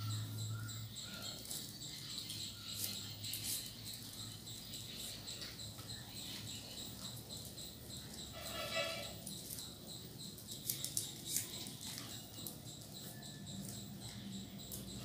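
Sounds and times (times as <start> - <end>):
high chirping: 0.0 - 15.0.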